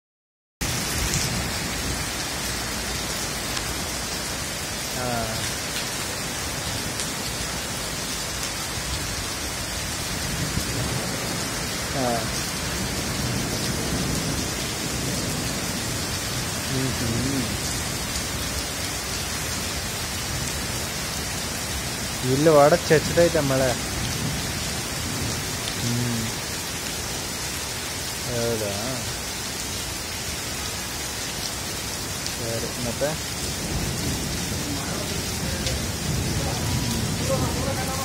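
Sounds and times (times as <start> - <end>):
heavy rain on pavement: 0.6 - 38.0.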